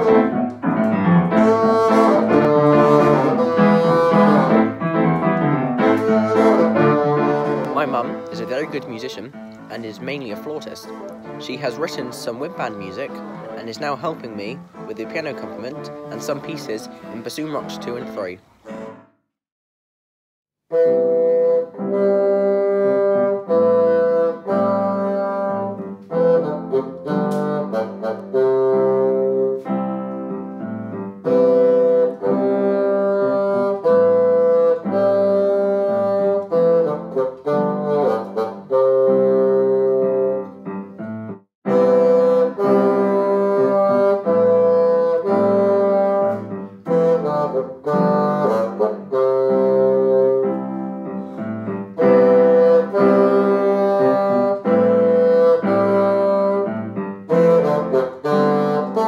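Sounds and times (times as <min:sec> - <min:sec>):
bassoon melody: 0:00.0 - 0:19.1, 0:20.7 - 0:59.0
piano accompaniment: 0:00.0 - 0:19.3, 0:20.7 - 0:59.0.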